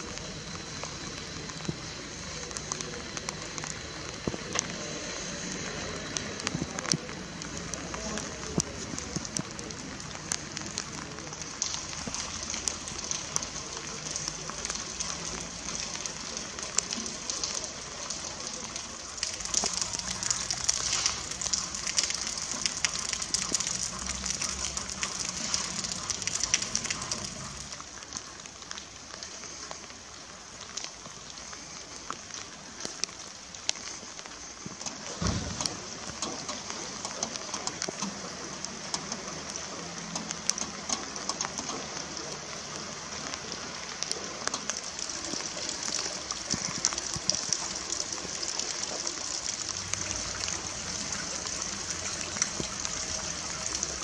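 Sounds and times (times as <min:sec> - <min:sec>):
rain falling on wet pavement: 0:00.0 - 0:54.0.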